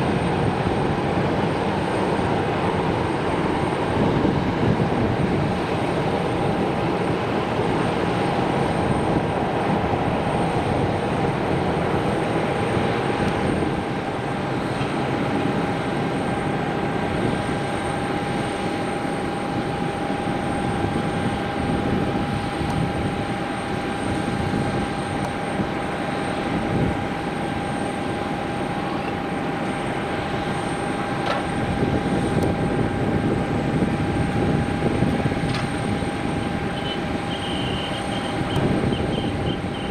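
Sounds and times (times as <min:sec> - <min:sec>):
aircraft rushing hum: 0:00.0 - 0:39.9
constant high whine: 0:00.0 - 0:39.9.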